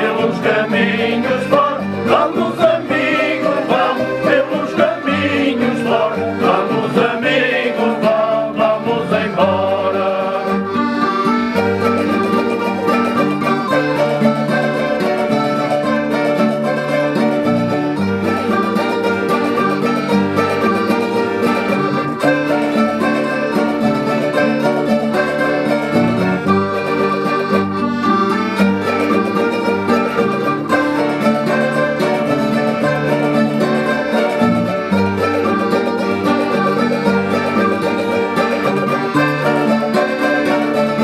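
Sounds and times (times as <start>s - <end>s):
accordion: 0.0s - 41.0s
mandolins plucking: 0.0s - 41.0s
strummed acoustic guitars: 0.0s - 41.0s.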